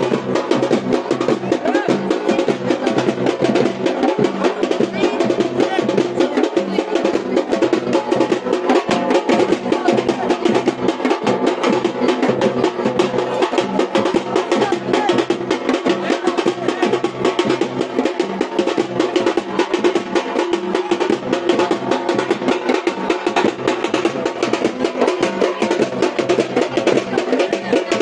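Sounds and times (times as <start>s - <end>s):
fast drumming: 0.0s - 28.0s.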